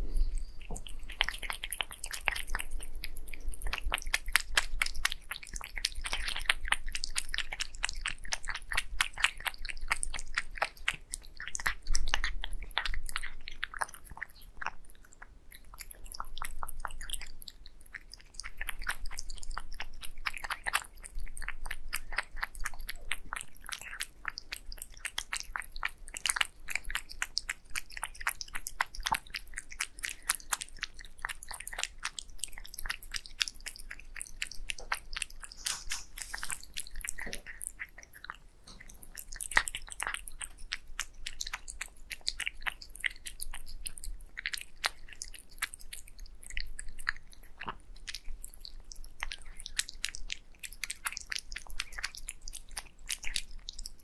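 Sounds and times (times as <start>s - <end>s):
cat chewing and licking: 0.0s - 54.0s.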